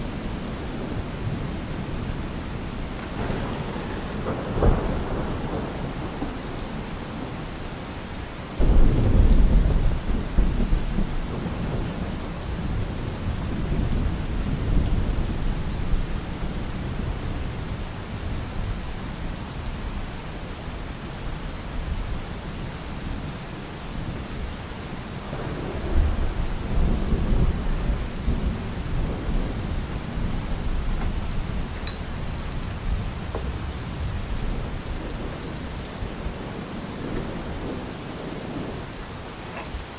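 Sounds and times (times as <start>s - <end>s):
thunder rumbling: 0.0s - 18.8s, 23.9s - 39.9s
steady rain: 0.0s - 39.9s.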